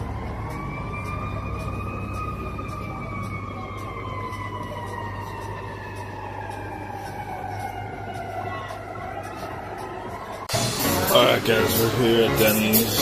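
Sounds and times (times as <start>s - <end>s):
siren wailing: 0.0s - 11.8s.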